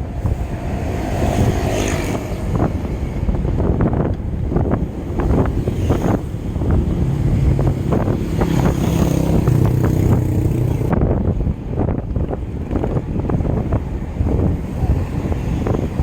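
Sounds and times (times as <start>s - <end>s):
low engine hum: 0.0s - 16.0s
wind rushing over microphone: 0.0s - 16.0s.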